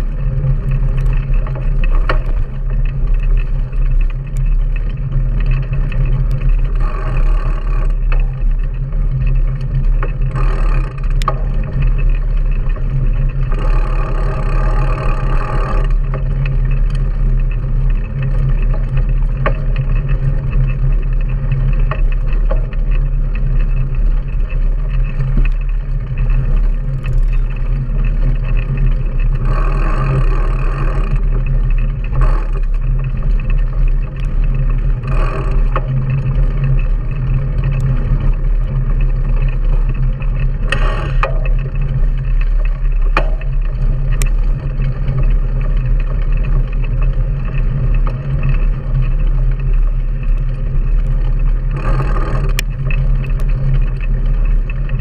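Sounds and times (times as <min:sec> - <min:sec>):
bike ride vibration rumble: 0:00.0 - 0:55.0
wind buffeting microphone: 0:00.0 - 0:55.0.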